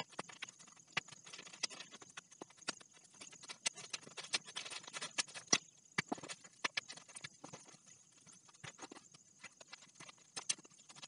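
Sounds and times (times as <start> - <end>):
stones clacking together: 0.0 - 11.0.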